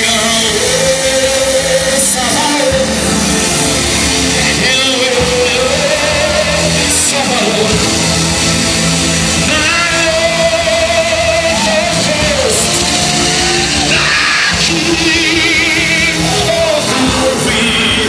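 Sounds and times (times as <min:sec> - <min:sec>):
band playing: 0:00.0 - 0:18.0.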